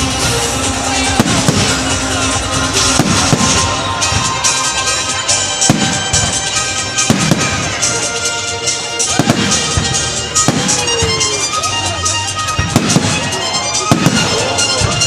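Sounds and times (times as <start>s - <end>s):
fireworks crackling: 0.0s - 15.0s
music playing: 0.0s - 15.0s
firework shell bursts: 1.2s - 15.0s.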